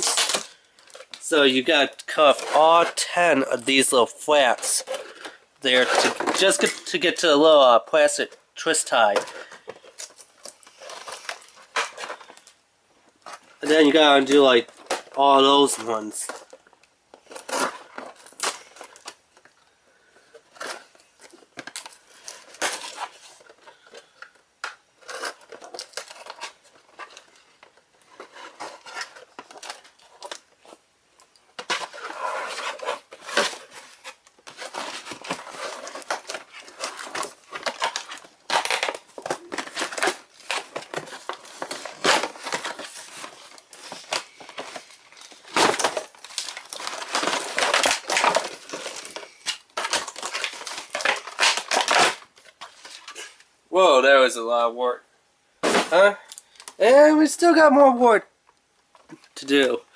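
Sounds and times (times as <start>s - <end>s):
plastic packaging crinkling and clicking: 0.0s - 53.5s, 55.7s - 56.8s.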